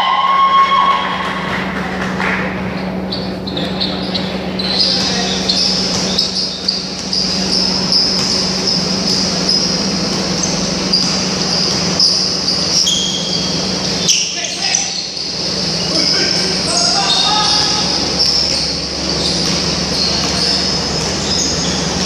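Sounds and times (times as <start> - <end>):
high whine: 0.0 - 22.0
steady low hum: 0.0 - 22.0.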